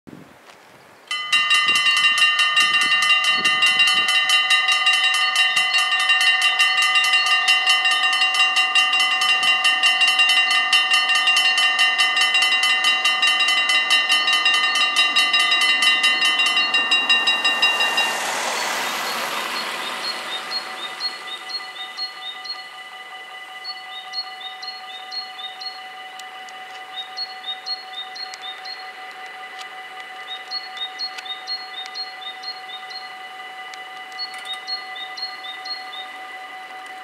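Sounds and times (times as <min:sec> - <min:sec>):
level crossing bells clanging: 0:01.1 - 0:37.0.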